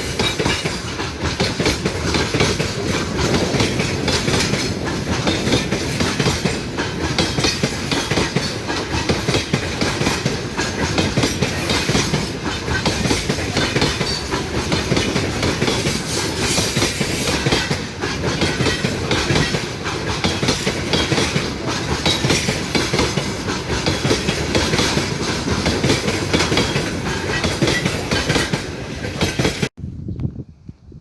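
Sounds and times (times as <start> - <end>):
train wheels clattering on rails: 0.0 - 29.7.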